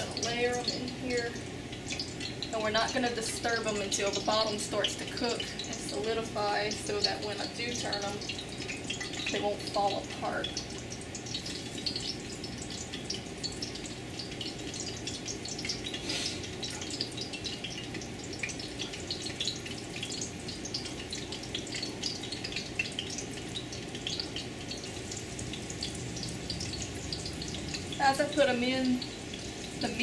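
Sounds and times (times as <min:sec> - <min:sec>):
hot oil sizzling and popping: 0:00.0 - 0:30.0.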